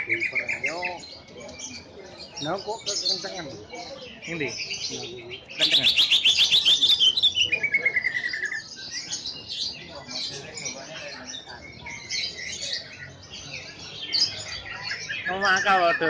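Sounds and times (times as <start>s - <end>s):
bird singing trills and chirps: 0.0s - 16.0s.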